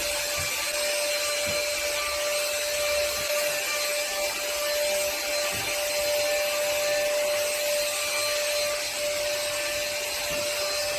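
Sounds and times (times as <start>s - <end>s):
cleaning machine motor whining: 0.0s - 10.9s.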